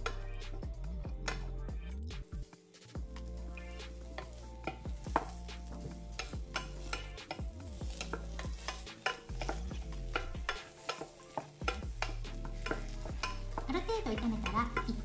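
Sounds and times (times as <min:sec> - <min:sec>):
spatula scraping a frying pan: 0:02.8 - 0:15.0
vegetables frying: 0:02.8 - 0:15.0.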